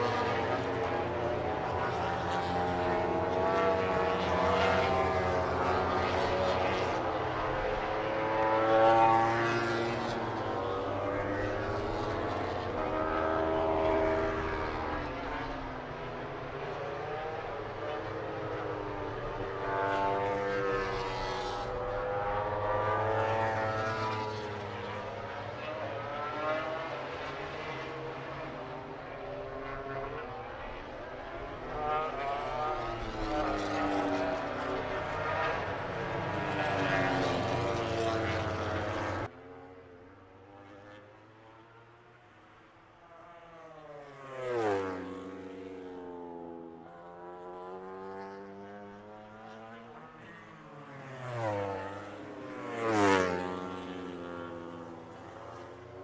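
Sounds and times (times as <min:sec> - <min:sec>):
racing motorcycles passing by: 0:00.0 - 0:56.0.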